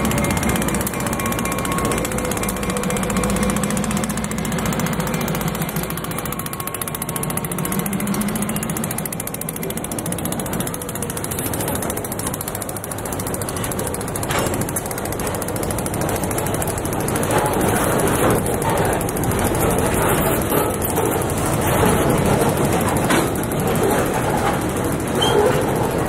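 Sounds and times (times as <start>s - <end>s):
freight train wheels rumbling: 0.0s - 26.0s
train clacking and clattering: 0.0s - 26.0s.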